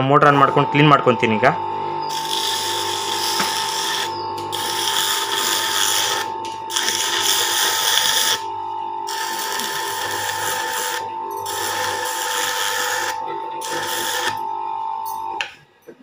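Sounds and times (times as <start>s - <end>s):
electric motor whining: 0.0s - 15.4s.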